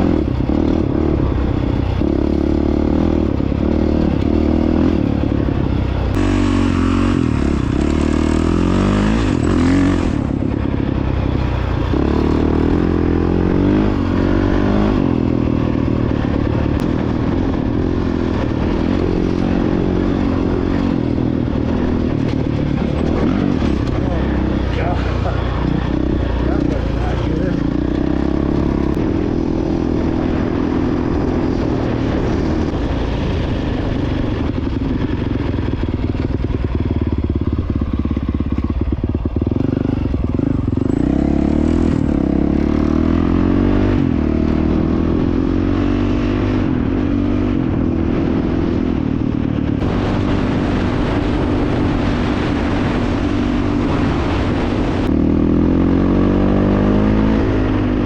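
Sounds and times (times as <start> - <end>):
dirt bike engine revving: 0.0 - 11.0, 11.6 - 32.8, 39.3 - 58.0
steady rushing noise: 0.0 - 58.0.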